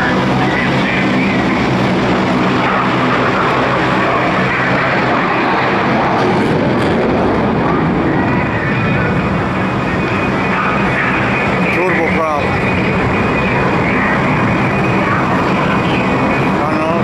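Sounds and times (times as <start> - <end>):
low hum: 0.0 - 17.0
propeller airplane engine drone: 0.0 - 17.0.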